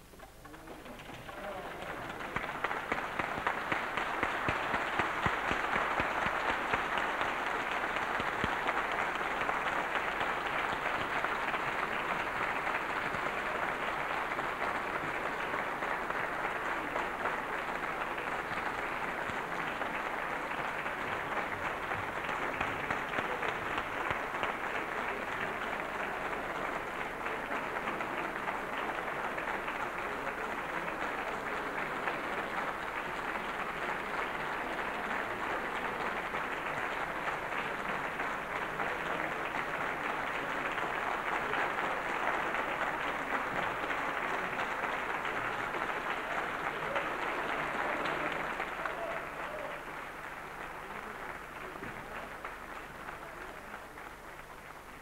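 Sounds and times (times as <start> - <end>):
audience applauding: 0.0 - 55.0.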